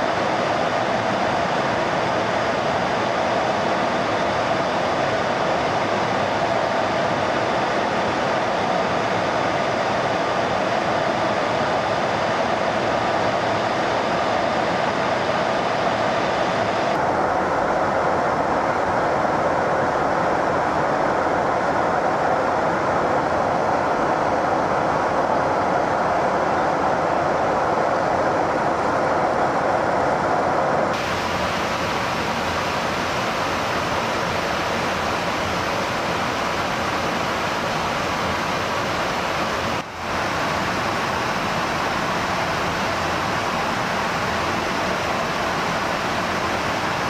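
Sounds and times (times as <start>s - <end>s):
jet engine and rushing air: 0.0s - 19.4s, 20.8s - 47.0s.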